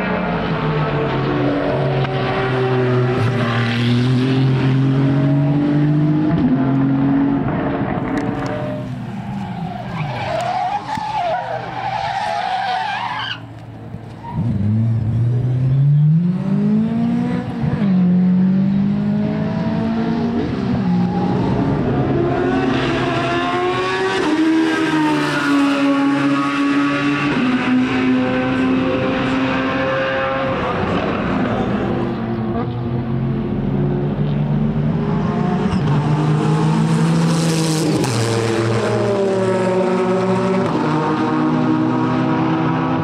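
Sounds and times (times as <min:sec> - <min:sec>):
racing car engines passing: 0:00.0 - 0:43.0.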